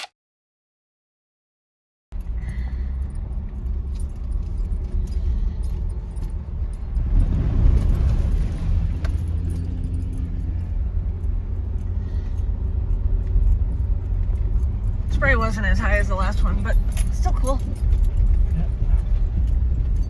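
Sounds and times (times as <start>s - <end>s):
vehicle engine and tyres rumbling: 2.1s - 20.0s
vehicle splashing through water: 2.2s - 20.0s.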